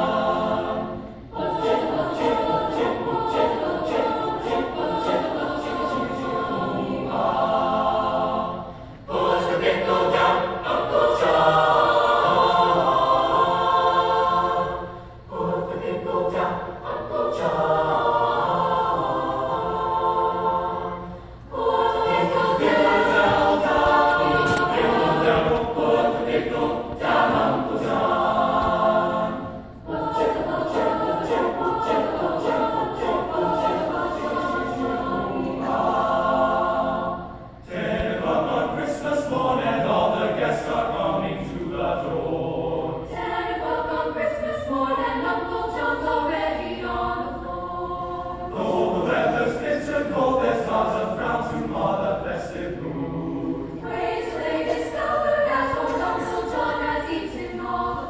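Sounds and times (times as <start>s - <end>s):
choir singing in parts: 0.0s - 58.0s.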